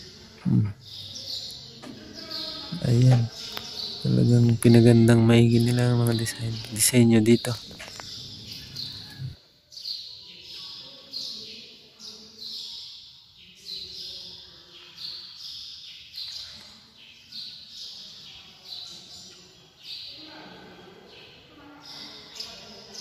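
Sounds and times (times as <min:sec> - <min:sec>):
bird chirping: 0:00.0 - 0:20.2.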